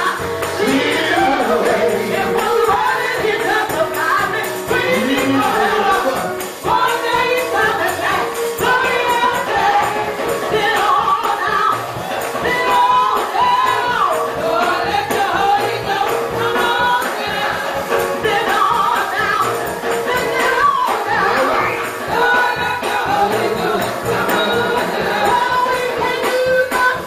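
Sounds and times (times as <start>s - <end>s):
group singing gospel: 0.0s - 27.0s
instrumental backing: 0.0s - 27.0s
percussion beat: 0.0s - 27.0s.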